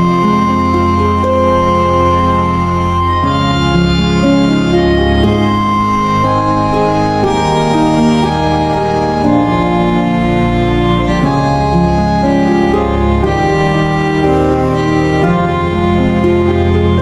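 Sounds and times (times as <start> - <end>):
organ-like keyboard chords: 0.0 - 17.0.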